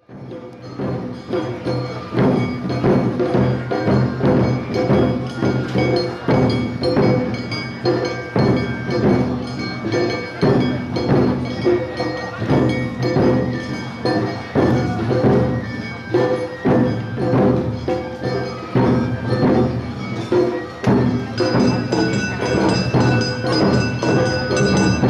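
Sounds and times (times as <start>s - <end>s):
drums beating: 0.0s - 25.0s
bell-like gongs striking: 0.2s - 25.0s.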